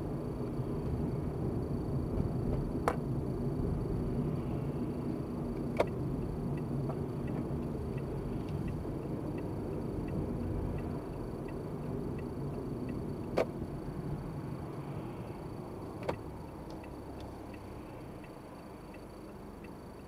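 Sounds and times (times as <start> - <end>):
engine and tyre rumble: 0.0 - 20.0
turn signal ticking: 0.4 - 20.0.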